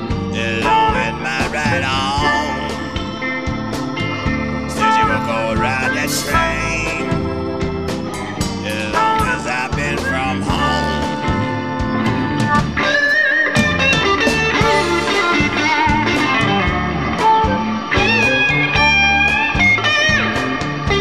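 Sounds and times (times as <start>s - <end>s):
steady drum beat: 0.0s - 13.0s, 13.6s - 21.0s
bass guitar: 0.0s - 21.0s
electric guitar lead: 0.0s - 21.0s.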